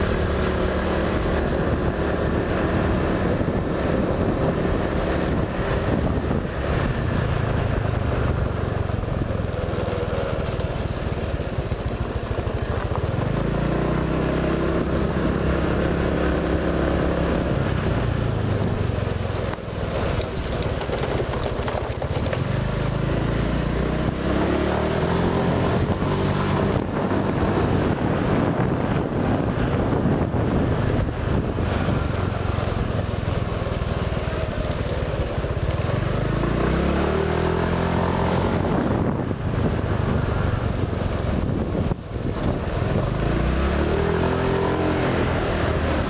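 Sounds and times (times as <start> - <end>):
scooter engine running: 0.0 - 46.0.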